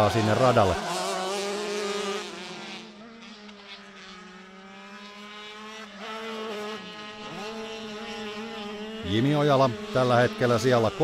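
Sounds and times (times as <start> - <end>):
kart engines at high revs: 0.0 - 11.0.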